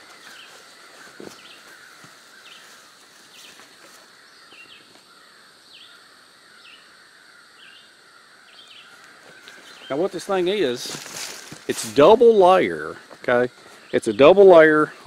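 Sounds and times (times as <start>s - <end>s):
birds chirping: 0.0s - 15.0s
high insect hum: 0.0s - 15.0s.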